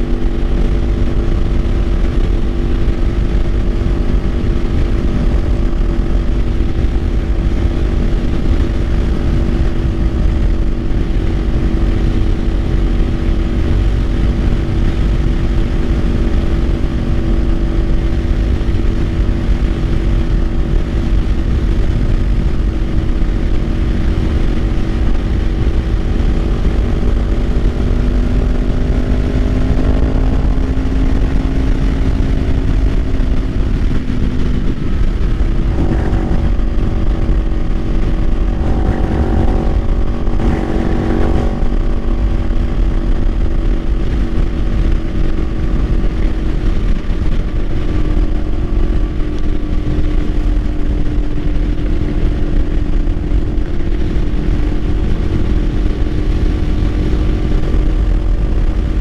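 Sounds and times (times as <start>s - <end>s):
motorcycle engine cruising: 0.0s - 59.0s
wind rush on microphone: 0.0s - 59.0s.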